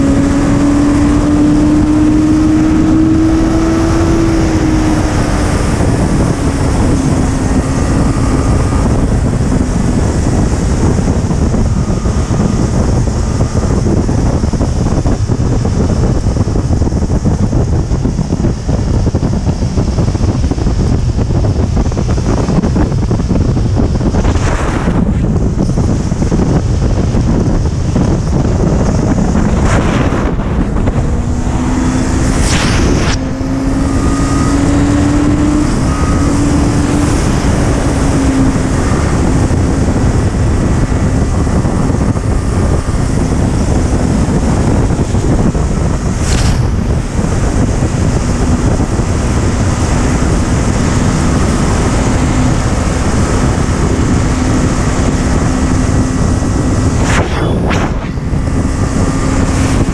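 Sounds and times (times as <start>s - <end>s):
motorcycle engine: 0.0s - 59.9s
wind gusts buffeting microphone: 0.0s - 59.9s
wind rushing on microphone: 0.0s - 59.9s.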